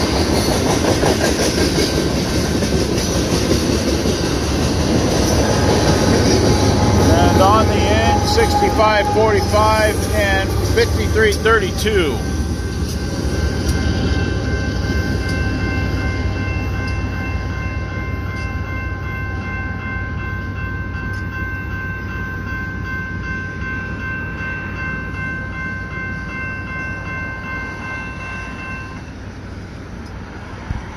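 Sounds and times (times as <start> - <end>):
freight train rumbling: 0.0 - 30.9
railroad crossing bell ringing: 1.4 - 29.6.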